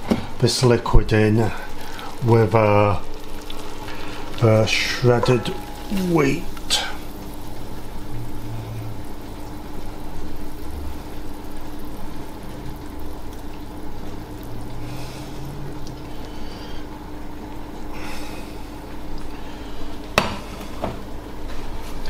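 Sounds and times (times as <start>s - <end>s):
steady low hum: 3.0s - 21.9s.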